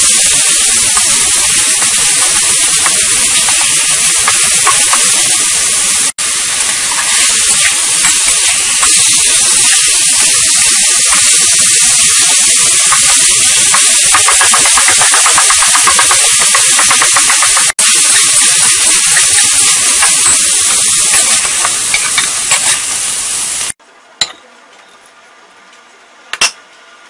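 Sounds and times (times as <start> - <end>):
meat sizzling in a wok: 0.0 - 23.8.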